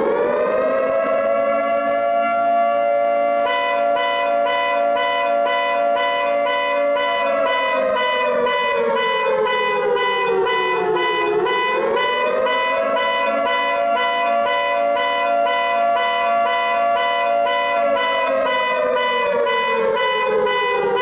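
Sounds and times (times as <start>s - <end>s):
sliding siren tone: 0.0s - 21.0s
steady two-note alarm tone: 0.5s - 21.0s.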